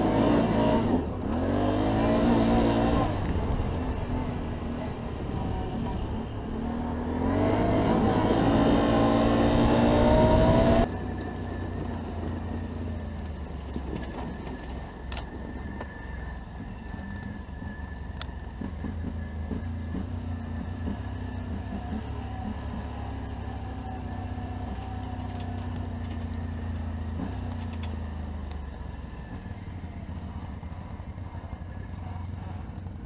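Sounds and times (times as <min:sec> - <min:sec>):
quad engine accelerating: 0:00.0 - 0:33.0.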